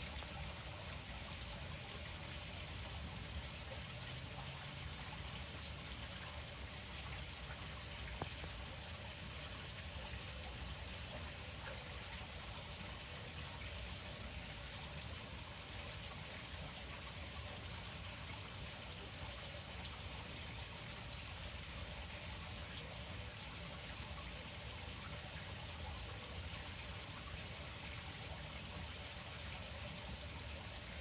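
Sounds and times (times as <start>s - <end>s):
water patter and trickle: 0.0s - 31.0s.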